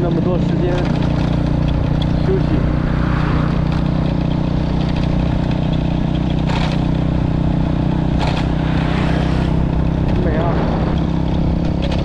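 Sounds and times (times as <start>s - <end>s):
motorcycle engine cruising: 0.0s - 12.0s
wind rushing over microphone: 1.2s - 6.2s, 6.9s - 12.0s.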